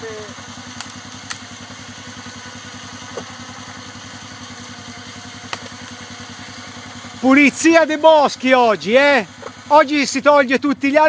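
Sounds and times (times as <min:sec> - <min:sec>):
atv engine running at low revs: 0:00.0 - 0:11.0.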